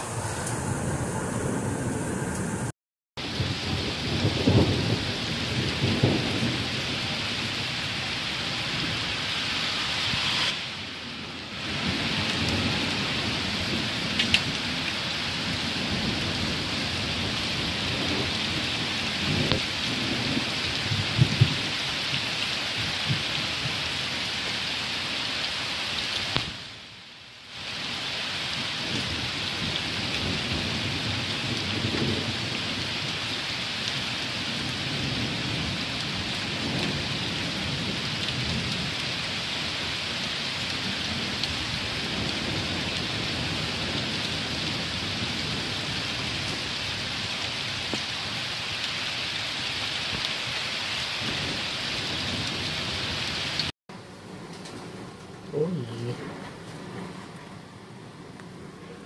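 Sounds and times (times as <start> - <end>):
thunder rumbling: 0.0 - 21.8, 28.8 - 55.5, 56.1 - 59.0
heavy rain hissing: 0.0 - 59.0.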